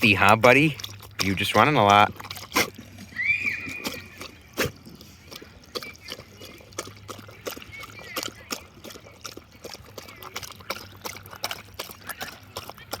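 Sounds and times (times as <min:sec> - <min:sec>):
dog lapping water: 0:00.0 - 0:13.0
water trickling: 0:00.0 - 0:13.0.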